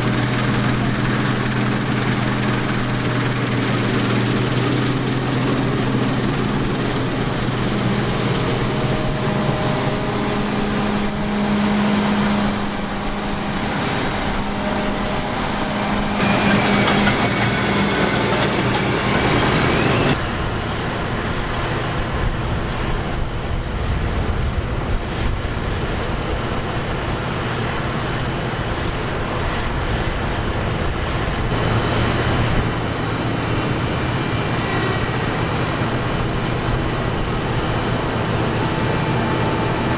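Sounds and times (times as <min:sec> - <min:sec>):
tractor engine: 0:00.0 - 0:22.0, 0:26.8 - 0:39.9
combine harvester engine: 0:00.0 - 0:23.8, 0:24.4 - 0:39.9.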